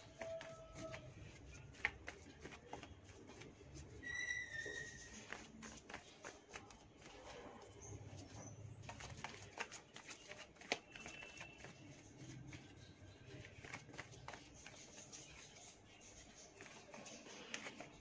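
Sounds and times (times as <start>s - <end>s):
cards shuffled by hand: 0.0s - 4.0s, 4.6s - 18.0s.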